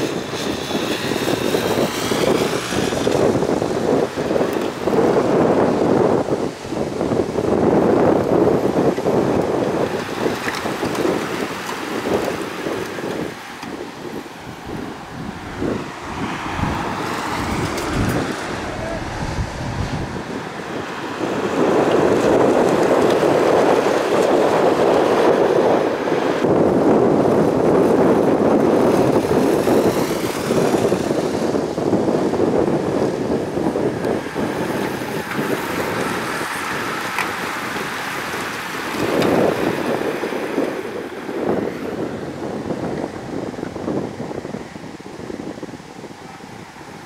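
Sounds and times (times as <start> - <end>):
cyclists riding past: 0.0 - 47.0
wind buffeting microphone: 0.0 - 47.0.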